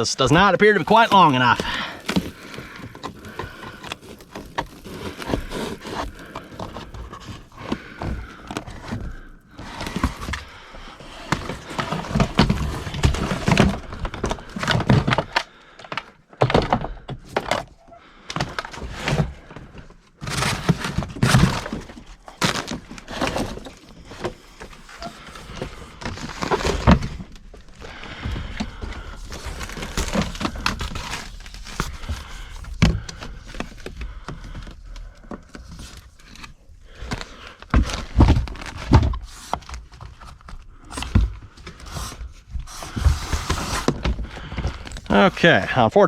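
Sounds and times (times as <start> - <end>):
hands handling cable and tools: 0.0 - 45.6.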